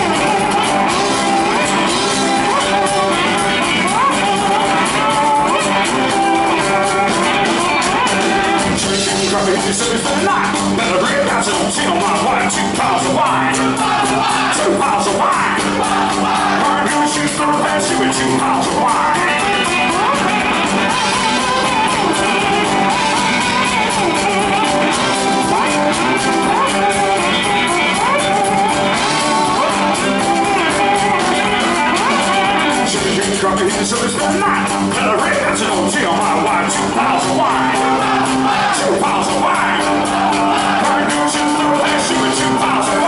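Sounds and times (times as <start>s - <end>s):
country blues band playing: 0.0s - 43.0s
drums: 0.0s - 43.0s
fingerpicked electric guitar: 0.0s - 43.0s
person singing: 0.0s - 43.0s
washboard rhythm: 0.0s - 43.0s.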